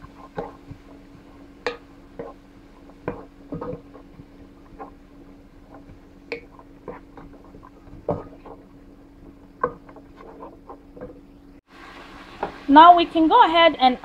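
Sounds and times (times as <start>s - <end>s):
wooden spoon knocking and scraping pan: 0.0s - 11.3s
steady low hum: 0.0s - 12.4s.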